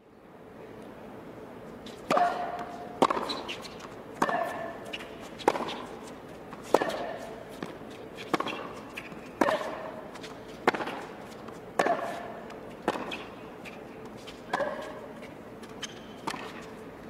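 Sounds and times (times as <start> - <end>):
tennis ball bouncing: 1.8 - 16.8
tennis racket hitting ball: 2.0 - 16.7.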